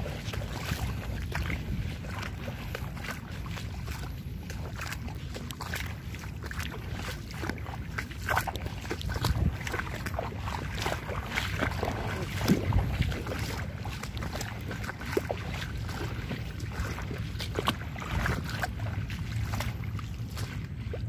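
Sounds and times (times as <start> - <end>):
footsteps splashing through water: 0.0 - 21.0
wind rumbling on microphone: 0.0 - 21.0.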